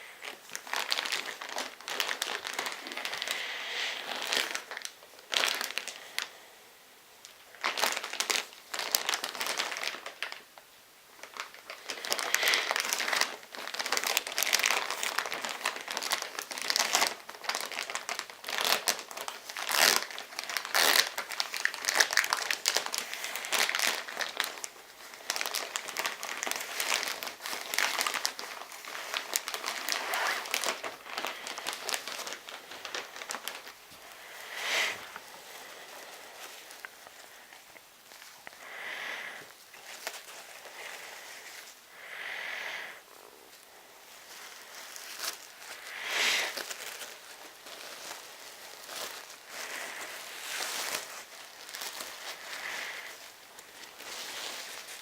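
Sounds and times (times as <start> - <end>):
plastic crinkling: 0.0 - 6.4, 7.2 - 55.0.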